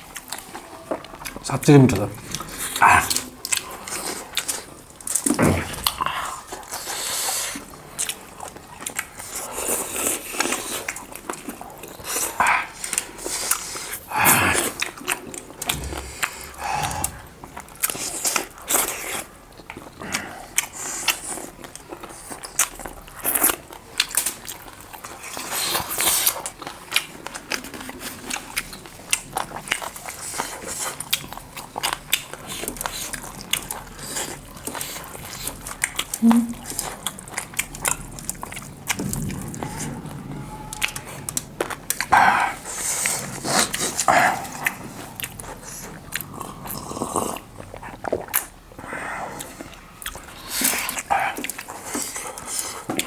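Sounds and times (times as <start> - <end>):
people chewing food: 0.0 - 53.0.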